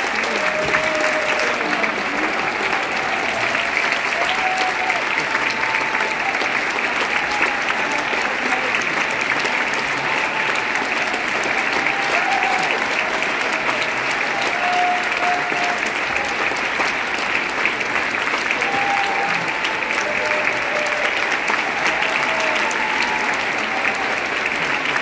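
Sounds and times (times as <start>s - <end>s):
audience applause: 0.0s - 25.0s.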